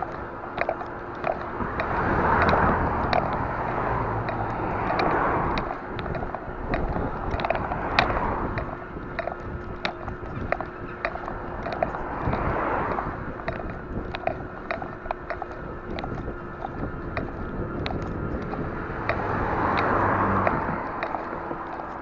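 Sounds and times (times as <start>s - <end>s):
bike rattling and clicking: 0.0s - 22.0s
tyre and road noise: 0.0s - 22.0s
wind rushing over microphone: 0.0s - 22.0s.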